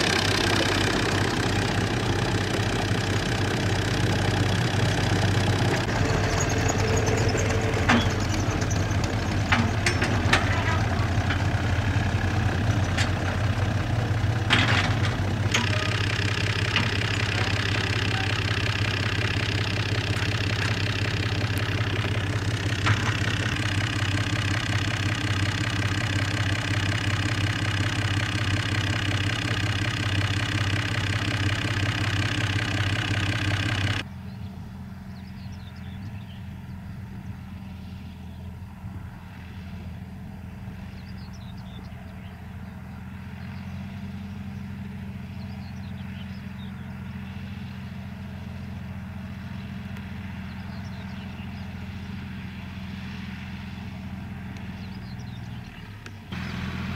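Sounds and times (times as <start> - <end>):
tractor diesel engine idling: 0.0 - 56.9.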